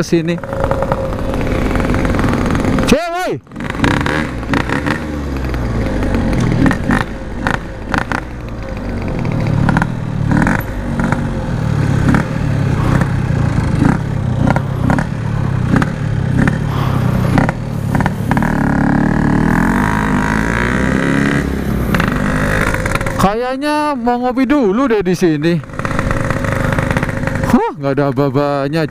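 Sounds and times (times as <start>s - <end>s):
two-stroke motorcycle engine revving: 0.0s - 28.9s.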